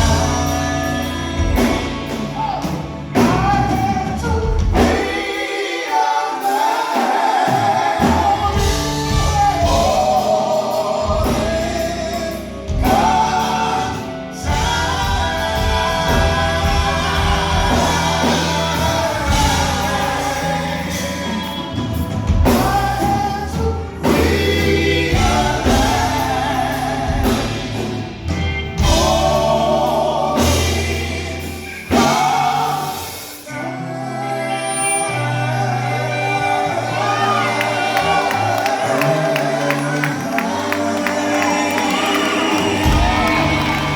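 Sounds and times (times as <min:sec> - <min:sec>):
steady bass line: 0:00.0 - 0:05.1, 0:08.0 - 0:32.9, 0:35.2 - 0:43.9
band accompaniment: 0:00.0 - 0:43.9
gospel choir singing: 0:00.0 - 0:43.9.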